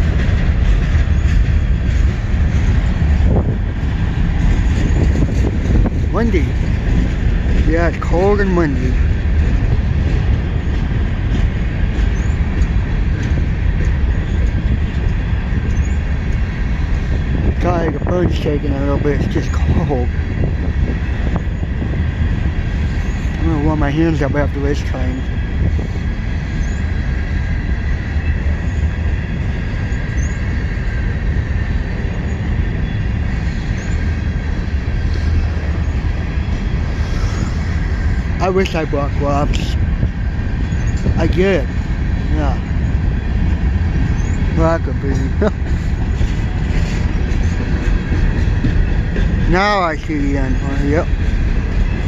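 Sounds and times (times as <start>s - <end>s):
freight train cars rumbling past: 0.0s - 52.0s
wind buffeting microphone: 0.0s - 52.0s.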